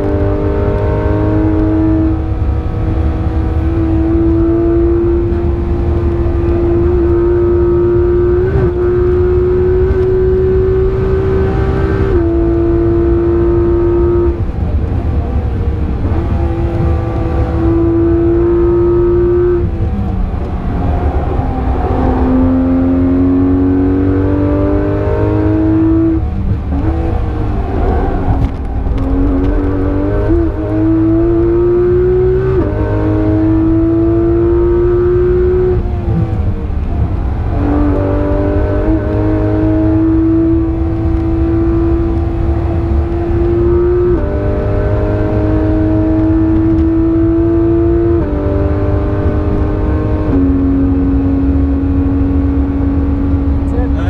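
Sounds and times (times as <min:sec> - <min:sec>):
car engine revving: 0:00.0 - 0:54.0
road and wind rumble: 0:00.0 - 0:54.0.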